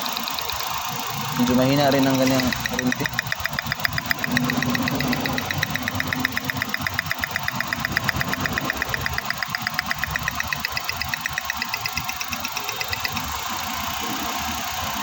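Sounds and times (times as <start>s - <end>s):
engine idling with rapid ticking: 0.0s - 15.0s.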